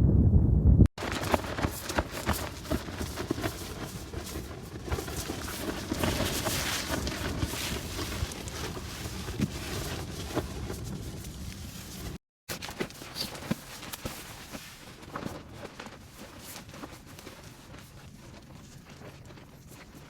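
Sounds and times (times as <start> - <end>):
rustles and light knocks: 1.0 - 20.0.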